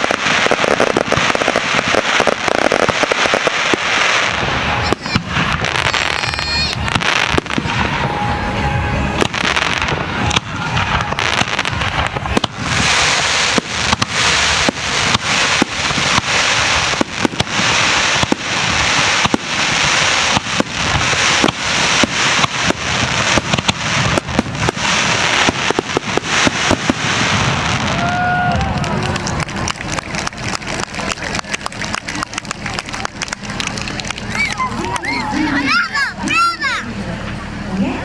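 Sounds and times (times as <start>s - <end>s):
fireworks shells bursting: 0.0s - 36.4s
fireworks crackle: 0.0s - 37.9s.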